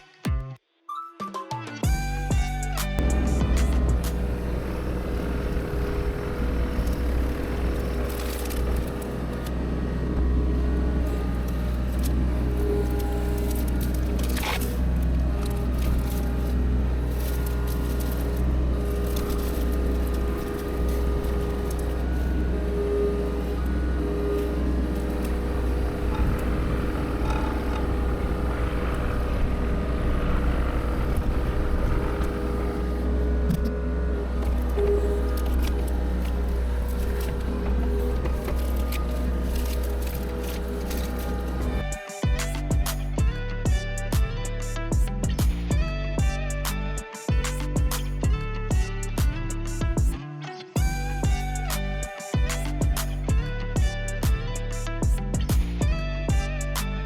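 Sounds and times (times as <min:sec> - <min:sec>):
heavy machine engine humming: 0:01.9 - 0:50.2, 0:50.8 - 0:57.0.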